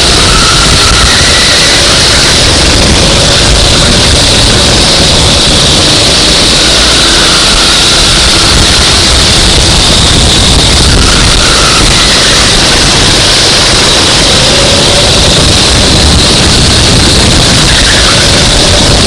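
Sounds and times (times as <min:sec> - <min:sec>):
go-kart engine racing: 0:00.0 - 0:19.0.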